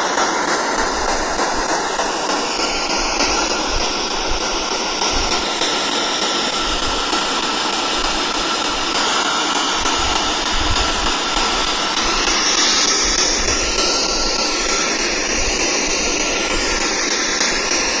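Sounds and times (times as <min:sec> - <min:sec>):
loud steady hiss: 0:00.0 - 0:18.0.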